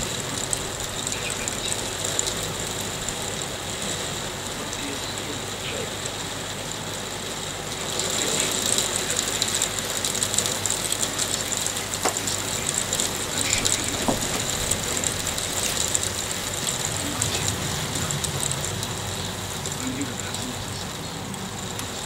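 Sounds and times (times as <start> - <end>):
hailstones rattling on hard surfaces: 0.0 - 22.0.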